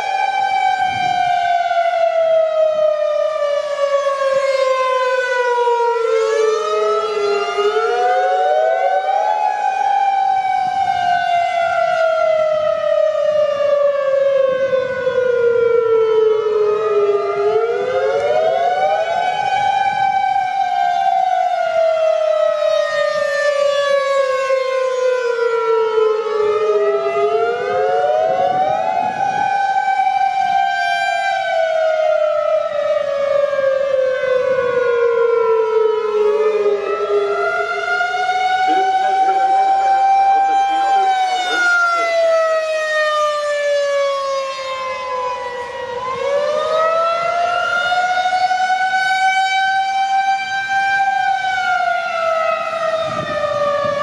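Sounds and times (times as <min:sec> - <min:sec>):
warning sirens wailing: 0:00.0 - 0:54.0.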